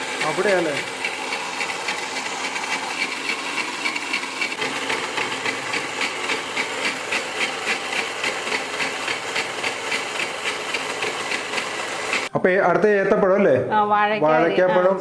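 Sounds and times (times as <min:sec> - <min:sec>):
mixer grinder motor pulsing: 0:00.0 - 0:12.3.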